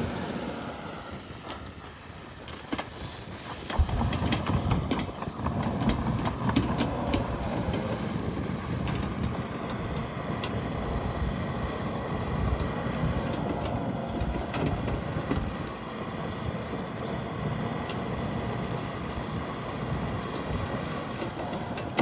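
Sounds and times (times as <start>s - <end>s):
vehicle engine rumble: 0.0s - 22.0s
vehicle body rattling: 1.3s - 22.0s.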